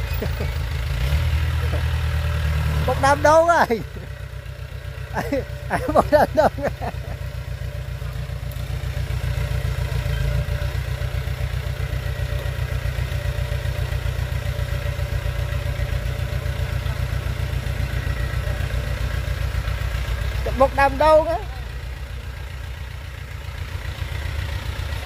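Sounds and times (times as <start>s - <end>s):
bulldozer diesel engine chugging: 0.0s - 25.0s.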